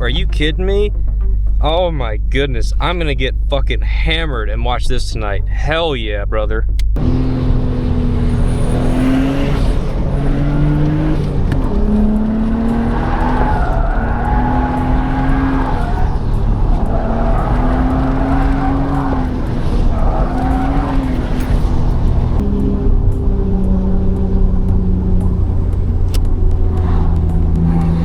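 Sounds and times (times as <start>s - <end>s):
turbocharged car engine revving: 0.0s - 28.0s.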